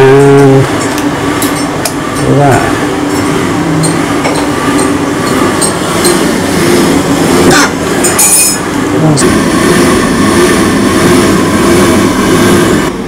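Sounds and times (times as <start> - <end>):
gas boiler mechanical racket: 0.0 - 13.0.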